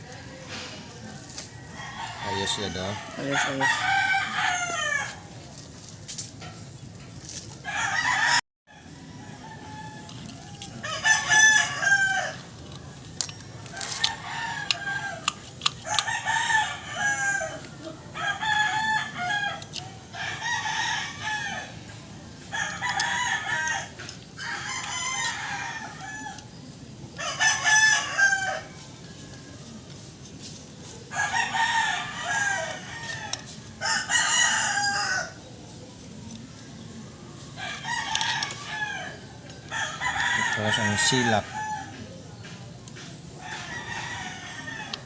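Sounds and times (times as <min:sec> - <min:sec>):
roosters crowing: 0:00.0 - 0:05.8, 0:07.4 - 0:45.0.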